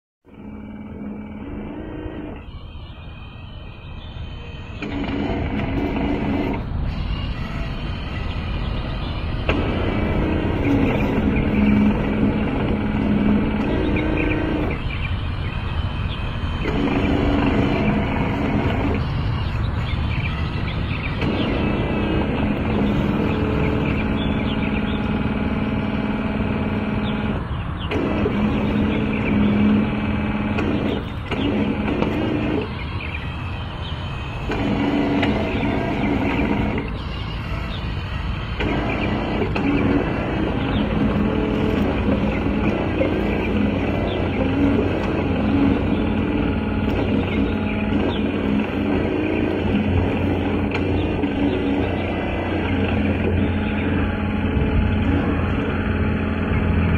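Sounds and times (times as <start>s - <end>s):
pitched motor hum: 0.2s - 56.9s
toy excavator motor rumble: 0.3s - 56.9s.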